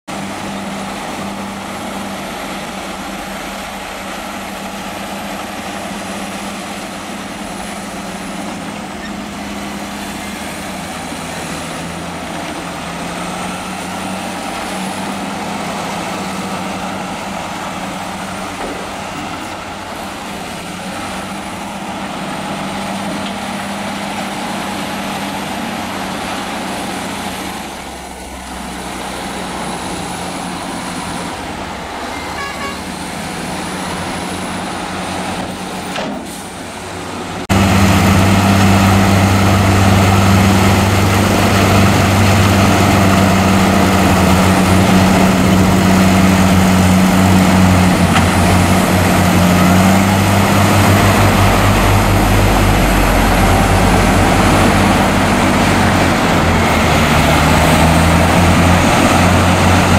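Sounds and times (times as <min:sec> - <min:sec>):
dump truck engine: 0:00.0 - 0:59.9
bulldozer engine pushing soil: 0:00.1 - 0:59.9.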